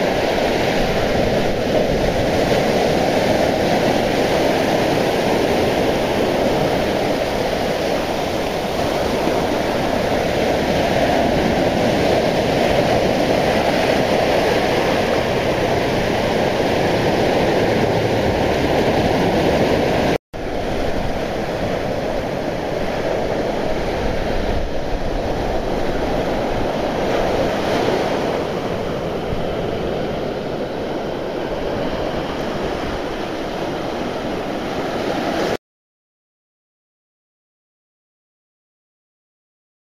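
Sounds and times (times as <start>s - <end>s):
waves breaking on beach: 0.0s - 35.6s.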